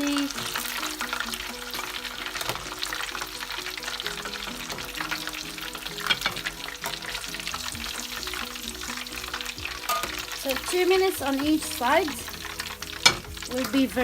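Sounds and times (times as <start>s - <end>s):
chicken deep-frying in oil: 0.0s - 14.0s
soft background music: 0.0s - 14.0s.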